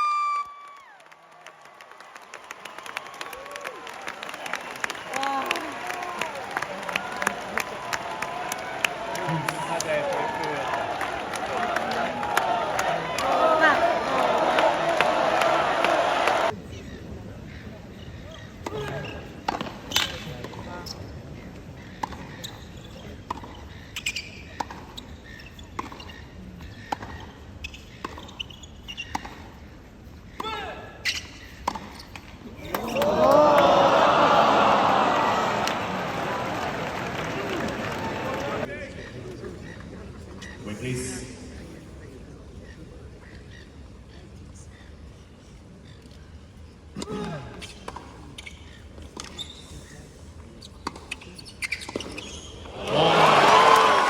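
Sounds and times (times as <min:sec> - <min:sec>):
stadium background hum: 0:00.0 - 0:54.0
low crowd murmur: 0:02.7 - 0:25.2, 0:31.7 - 0:54.0.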